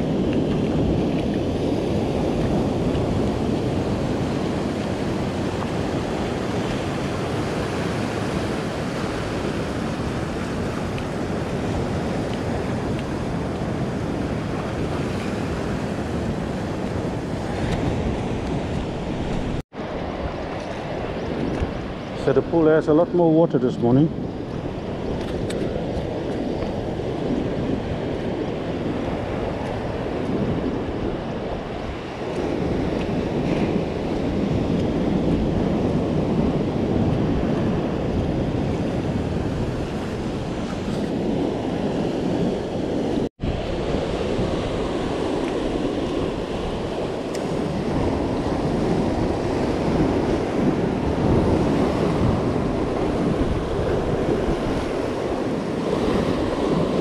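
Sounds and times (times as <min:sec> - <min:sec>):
surf washing over rocks: 0:00.0 - 0:57.0
wind rumbling on microphone: 0:00.0 - 0:57.0.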